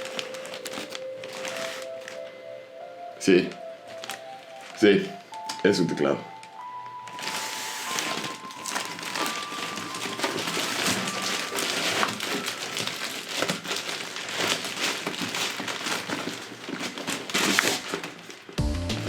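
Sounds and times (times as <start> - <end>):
packaging crinkling: 0.0 - 2.5, 3.5 - 5.7, 6.3 - 18.6.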